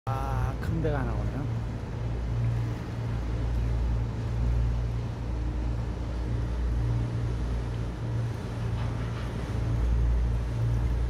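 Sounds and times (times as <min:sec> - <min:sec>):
ship engine low hum: 0:00.1 - 0:11.0.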